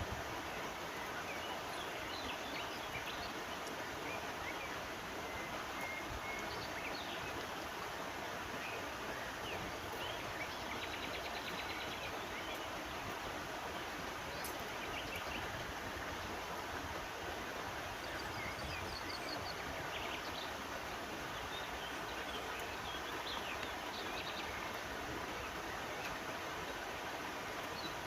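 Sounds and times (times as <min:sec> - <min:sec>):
river stream rushing: 0:00.0 - 0:28.0
birds chirping: 0:00.2 - 0:16.5, 0:17.1 - 0:28.0.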